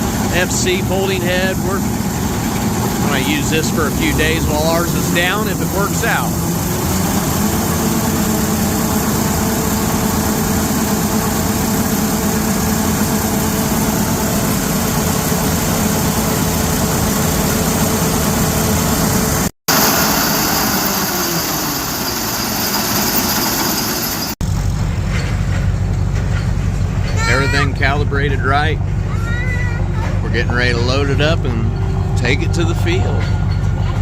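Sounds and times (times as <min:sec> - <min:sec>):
machine engine running: 0:00.0 - 0:29.2, 0:29.9 - 0:34.0.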